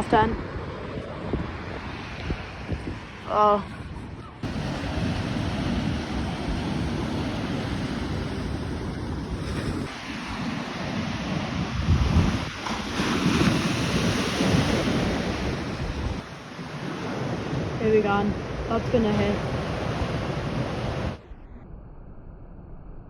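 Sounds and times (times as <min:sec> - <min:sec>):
sea waves breaking: 0:00.0 - 0:21.3
wind buffeting microphone: 0:00.0 - 0:22.6.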